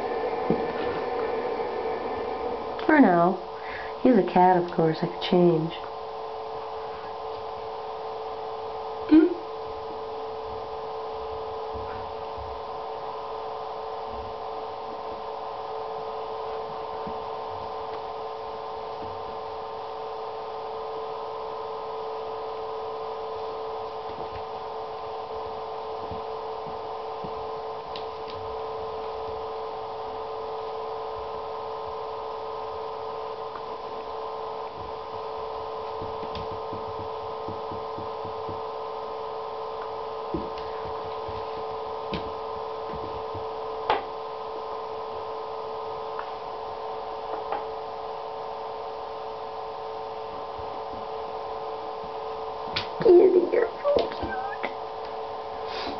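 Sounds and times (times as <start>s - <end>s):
steady tonal hum: 0.0s - 55.9s.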